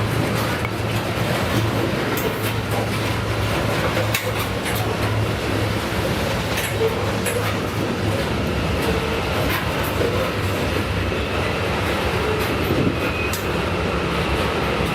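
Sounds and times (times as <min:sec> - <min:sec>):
freight train diesel drone: 0:00.0 - 0:14.9.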